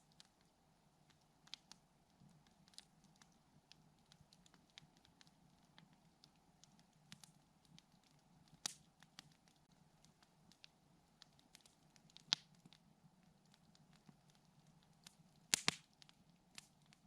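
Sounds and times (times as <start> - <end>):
campfire crackling: 0.0 - 17.0
fire popping: 0.0 - 17.0.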